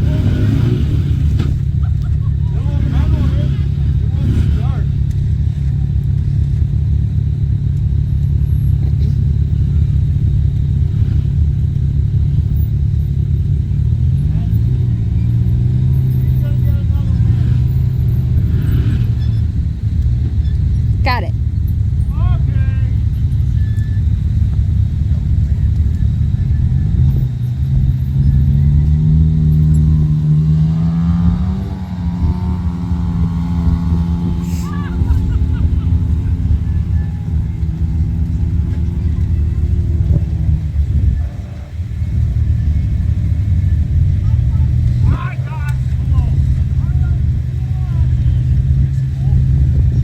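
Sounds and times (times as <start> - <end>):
atv engine rumbling: 0.0 - 50.0.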